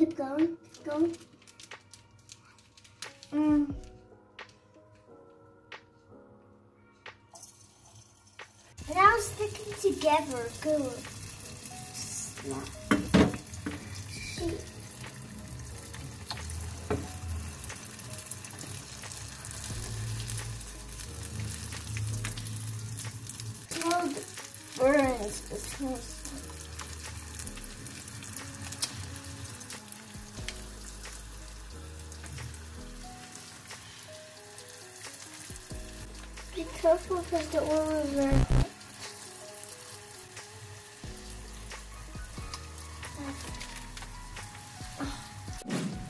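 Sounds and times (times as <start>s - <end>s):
background music with low notes: 0.0s - 46.0s
hot oil sizzling: 0.7s - 3.7s, 7.3s - 46.0s.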